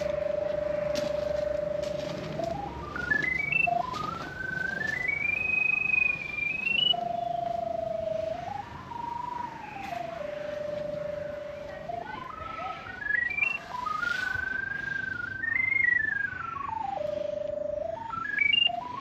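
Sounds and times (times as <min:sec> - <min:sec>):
electronic signal tone: 0:00.0 - 0:08.5, 0:09.6 - 0:19.0.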